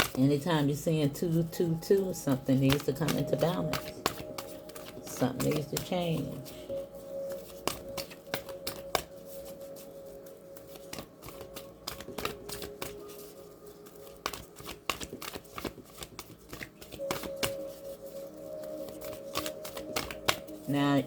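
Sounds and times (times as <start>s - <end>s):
cards shuffling and flicking: 0.0s - 21.0s
faint background music: 0.0s - 21.0s.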